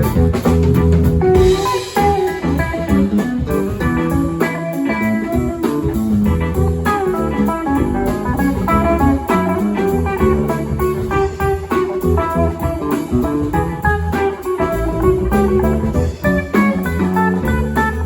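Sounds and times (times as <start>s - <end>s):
bass line: 0.0s - 18.0s
electric guitar picking notes: 0.0s - 18.0s
steady drum beat: 0.0s - 18.0s.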